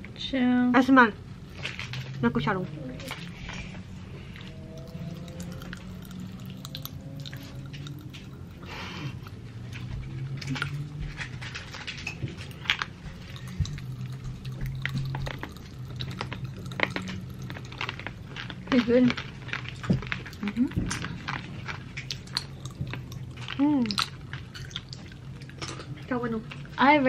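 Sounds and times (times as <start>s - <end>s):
low steady hum: 0.0s - 27.0s
wet chewing and slurping: 3.0s - 26.8s.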